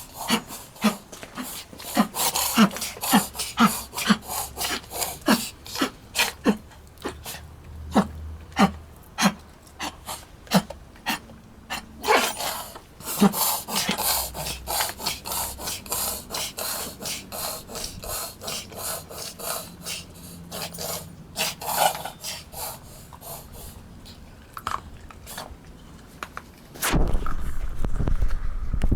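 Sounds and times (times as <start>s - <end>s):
dog panting rapidly: 0.0s - 23.8s.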